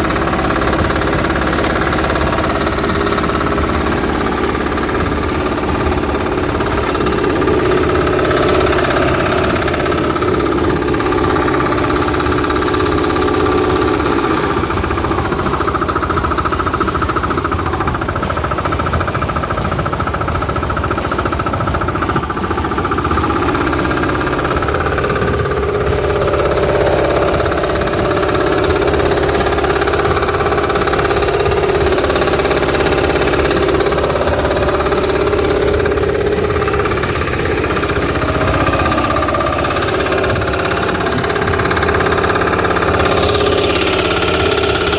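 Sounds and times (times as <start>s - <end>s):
farm machine engine rattling: 0.0s - 44.9s.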